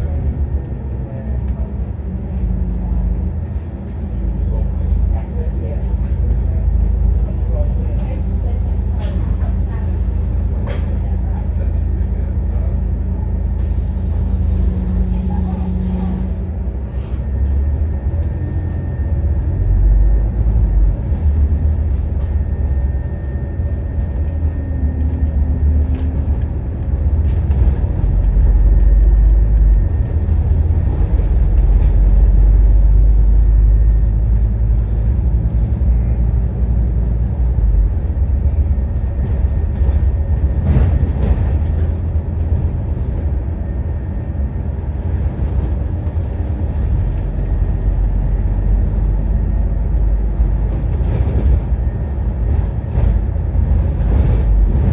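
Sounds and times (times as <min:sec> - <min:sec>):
bus diesel engine drone: 0:00.0 - 0:54.9.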